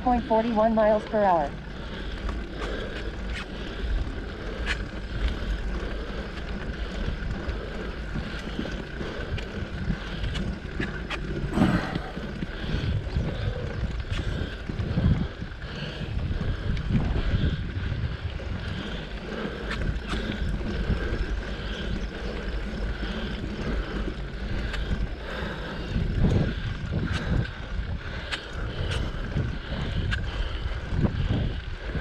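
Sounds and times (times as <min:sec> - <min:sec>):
bike clicks and rattles: 0:00.0 - 0:32.0
bike rolling over dirt track: 0:00.0 - 0:32.0
wind rumbling on microphone: 0:00.0 - 0:32.0.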